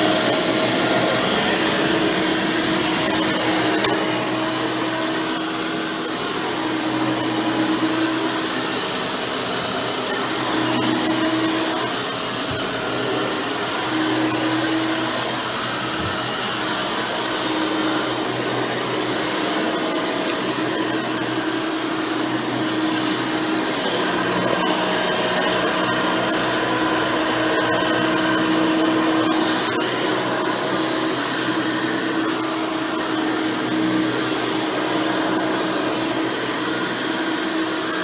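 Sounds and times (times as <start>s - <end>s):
upright vacuum cleaner running: 0.0s - 38.0s.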